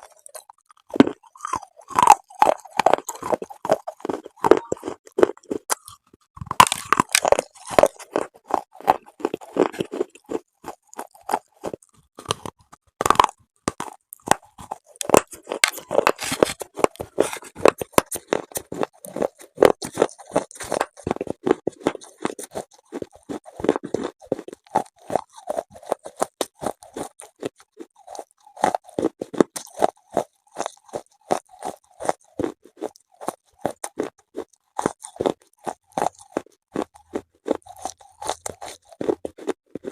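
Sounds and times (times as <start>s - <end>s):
crunchy chewing of chalk: 0.0s - 39.9s.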